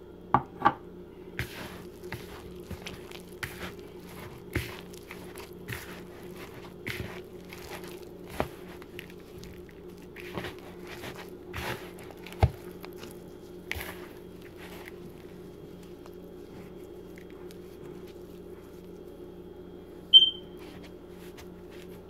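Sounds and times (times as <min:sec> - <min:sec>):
steady low hum: 0:00.0 - 0:22.0
dough crunching and squishing: 0:01.2 - 0:22.0.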